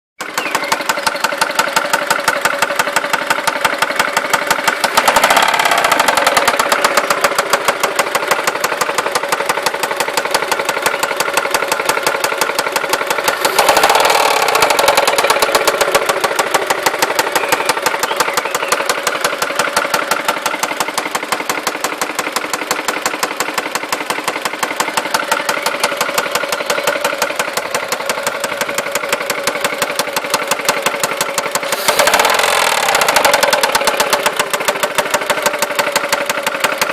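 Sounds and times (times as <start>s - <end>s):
petrol engine knocking: 0.2s - 36.9s.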